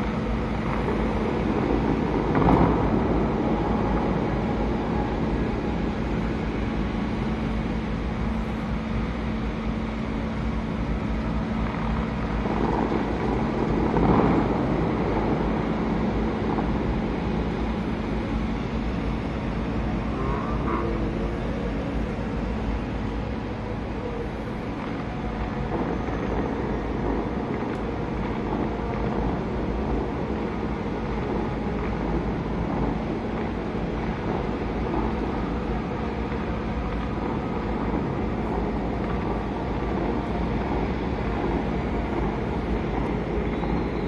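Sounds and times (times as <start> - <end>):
distant city traffic: 0.0 - 44.0
faint steady hum: 0.0 - 44.0.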